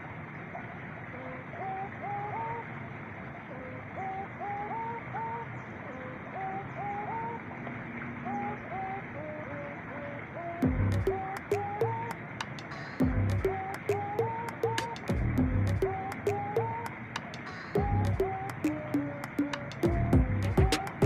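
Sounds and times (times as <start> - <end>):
doves cooing: 0.5 - 21.0.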